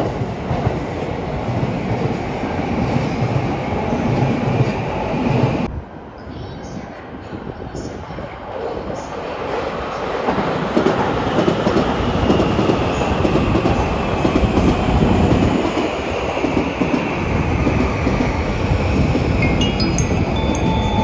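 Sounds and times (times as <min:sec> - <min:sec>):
train wheels rumbling and clacking: 0:00.0 - 0:05.7, 0:07.3 - 0:21.0.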